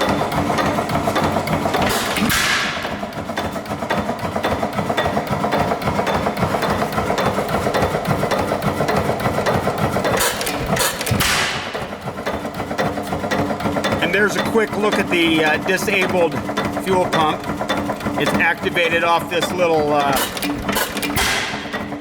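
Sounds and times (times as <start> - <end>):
engine mechanical clatter: 0.0 - 22.0.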